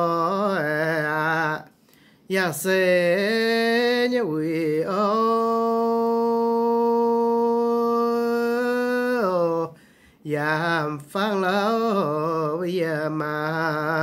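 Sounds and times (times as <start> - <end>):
person singing unaccompanied: 0.0 - 14.0.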